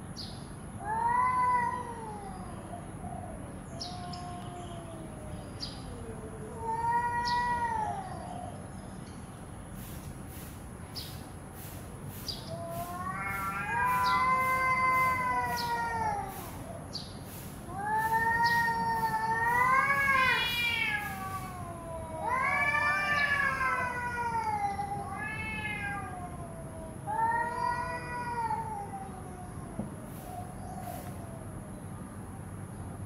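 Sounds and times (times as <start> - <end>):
cats yowling: 0.8 - 8.6, 12.3 - 31.6.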